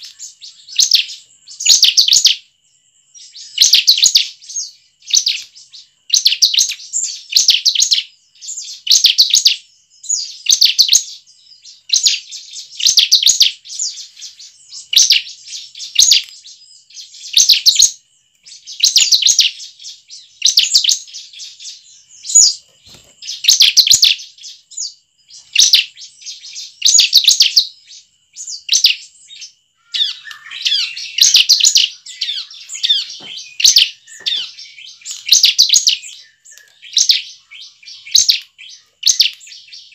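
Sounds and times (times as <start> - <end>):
bird singing rapid high notes: 3.2 - 39.9.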